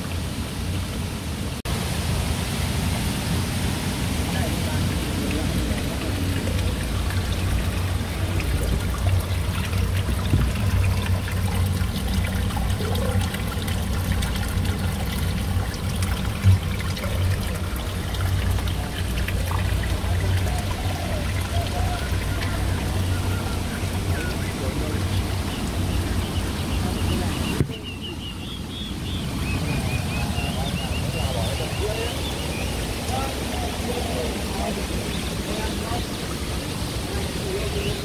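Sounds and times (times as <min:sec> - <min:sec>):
water trickling over stones: 0:00.0 - 0:38.0.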